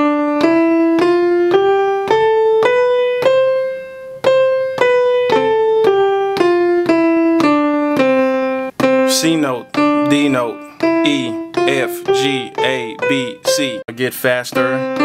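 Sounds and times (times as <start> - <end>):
sampled piano playing a scale: 0.0 - 15.0.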